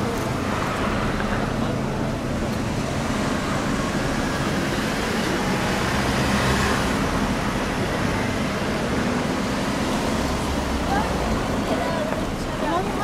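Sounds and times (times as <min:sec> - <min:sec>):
car engines in slow traffic: 0:00.0 - 0:13.0.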